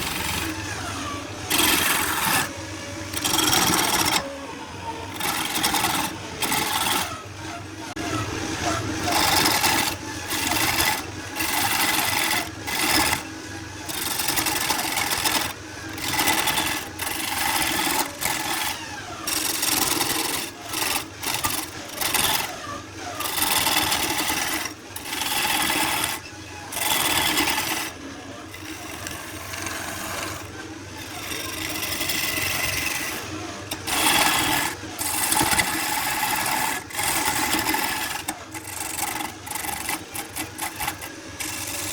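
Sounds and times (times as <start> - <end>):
rasping strokes on wood: 0.0 - 4.3, 5.1 - 41.9.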